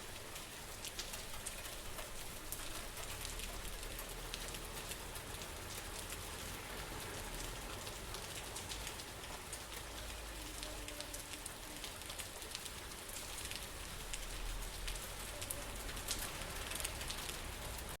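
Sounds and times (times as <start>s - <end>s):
raindrops ticking: 0.0s - 18.0s
steady rain falling: 0.0s - 18.0s.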